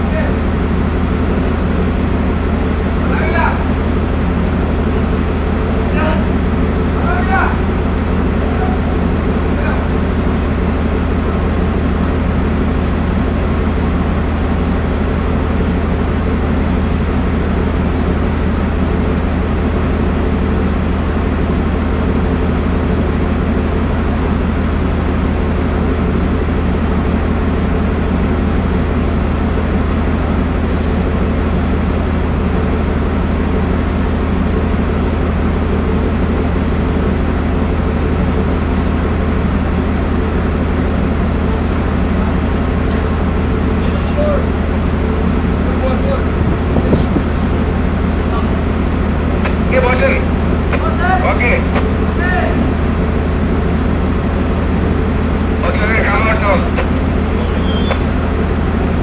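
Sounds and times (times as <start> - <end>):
ship machinery drone: 0.0 - 59.0.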